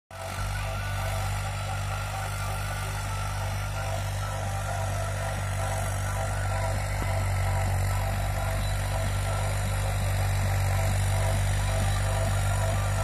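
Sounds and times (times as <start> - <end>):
tractor diesel engine running: 0.1 - 13.0.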